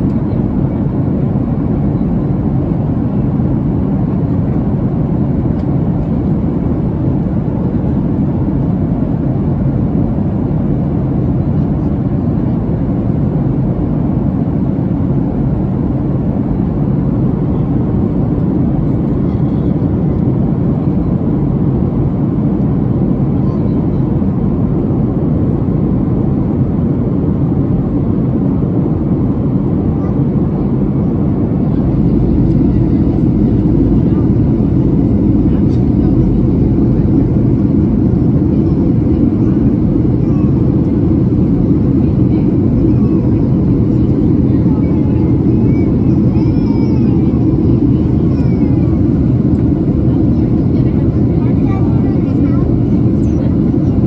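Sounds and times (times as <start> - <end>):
airplane cabin engine rush: 0.0 - 54.0.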